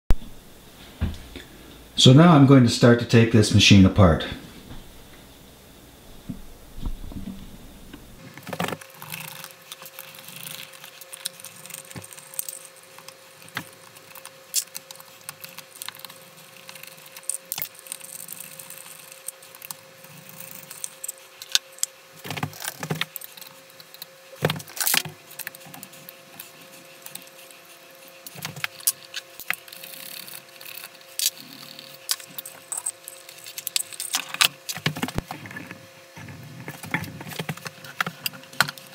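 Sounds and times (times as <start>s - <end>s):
faint steady hum: 0.1s - 38.9s.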